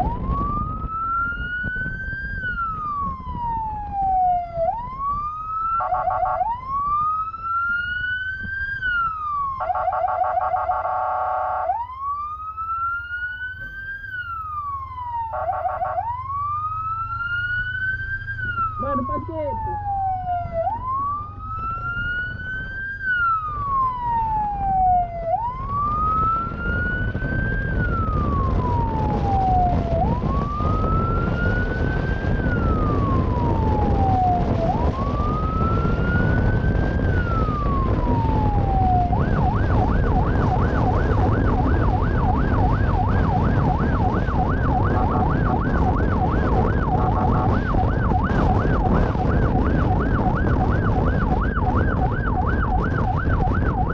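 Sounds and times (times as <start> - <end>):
police siren: 0.0 - 53.9
road and wind noise: 0.0 - 53.9.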